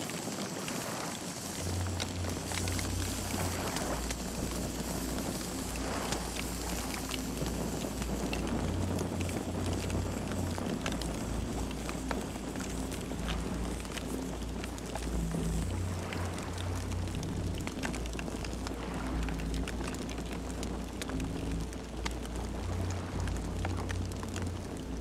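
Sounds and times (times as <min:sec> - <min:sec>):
campfire crackling and popping: 0:00.0 - 0:25.0
steady hiss: 0:00.0 - 0:25.0
low rumble: 0:01.4 - 0:25.0.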